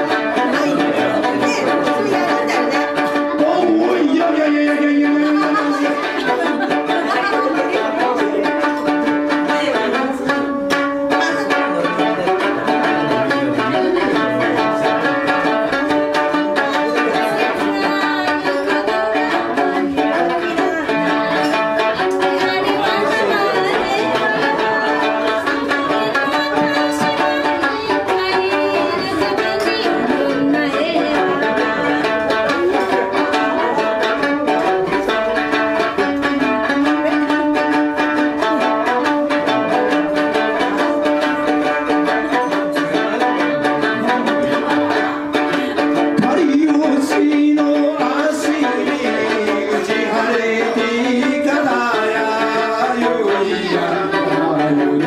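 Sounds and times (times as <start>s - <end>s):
plucked lute dance tune: 0.0s - 55.0s.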